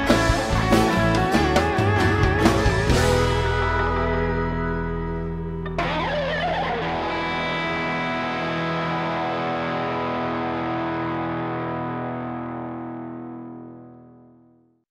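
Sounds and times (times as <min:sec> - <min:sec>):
guitar chord ringing: 0:00.0 - 0:14.7.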